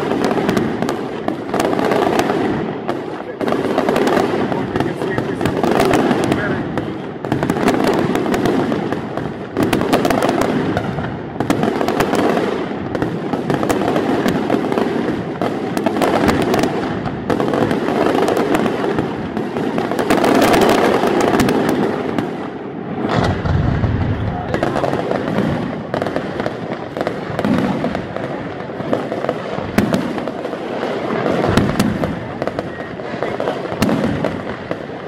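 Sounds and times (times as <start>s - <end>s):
fireworks crackling: 0.0s - 35.0s.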